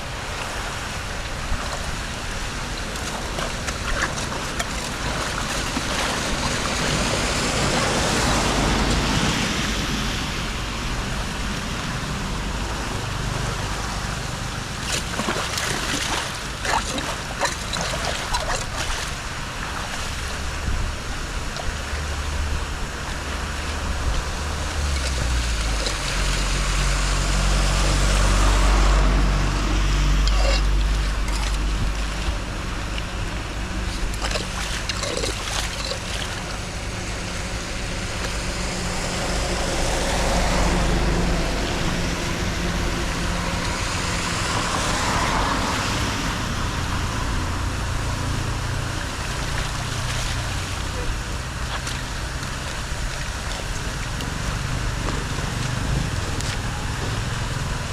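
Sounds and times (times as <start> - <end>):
water rushing into drain: 0.0 - 57.9
wind rumbling on microphone: 0.0 - 57.9.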